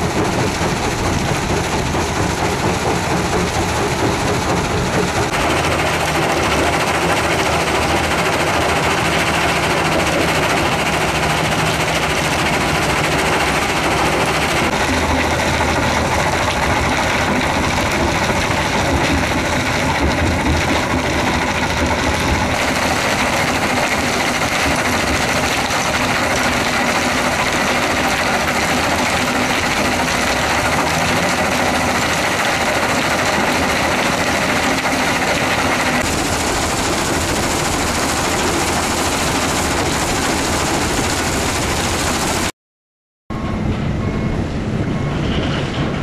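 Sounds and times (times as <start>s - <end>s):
diesel engine running: 0.0s - 42.5s
vibrating screen: 0.0s - 42.5s.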